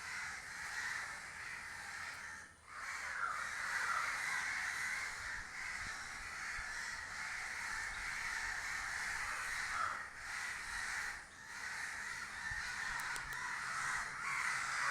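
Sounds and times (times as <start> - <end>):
crows cawing: 0.0 - 14.9.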